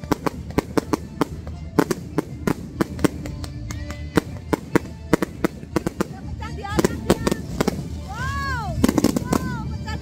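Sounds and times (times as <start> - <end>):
fireworks cracks and bangs: 0.0 - 10.0.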